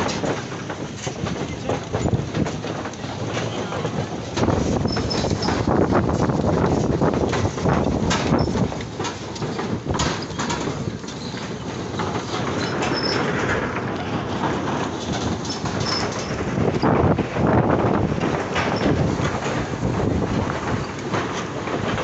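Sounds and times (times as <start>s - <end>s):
wooden planks clattering: 0.0s - 22.0s.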